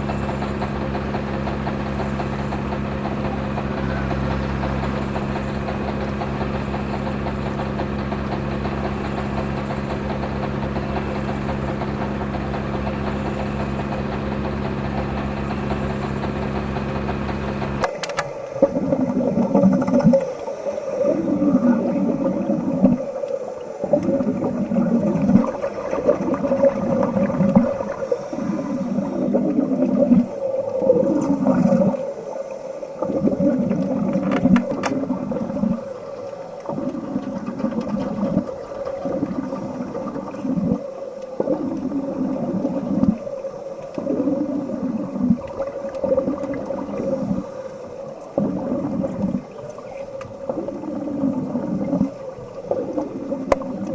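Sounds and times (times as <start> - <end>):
steady hum: 0.0 - 53.9
underwater exhaust bubbles gurgling: 0.0 - 53.9.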